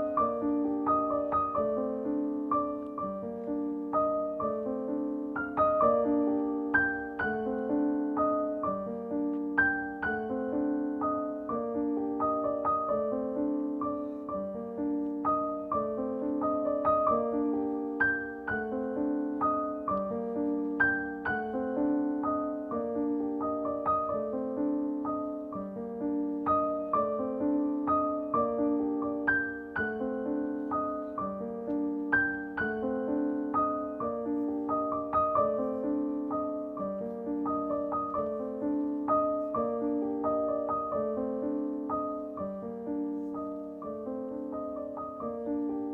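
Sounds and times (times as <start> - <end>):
soft piano music: 0.0 - 45.9.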